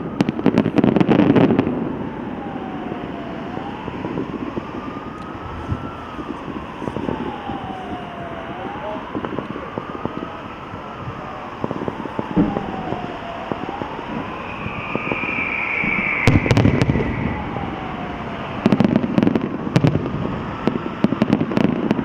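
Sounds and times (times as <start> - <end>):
fireworks popping: 0.0 - 22.0
wailing siren tone: 0.0 - 22.0.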